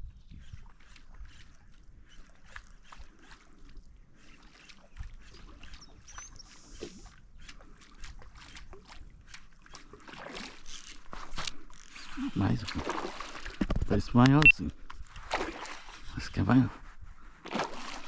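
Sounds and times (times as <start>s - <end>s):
water lapping and sloshing: 0.0s - 18.0s.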